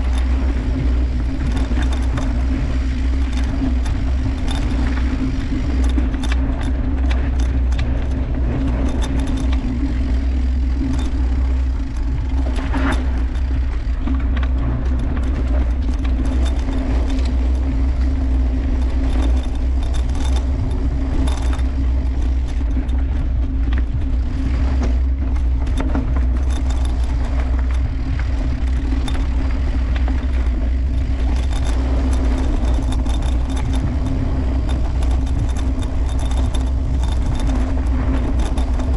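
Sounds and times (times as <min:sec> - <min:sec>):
bike chain rattling: 0:00.0 - 0:38.9
bike tyre rumble on dirt: 0:00.0 - 0:38.9.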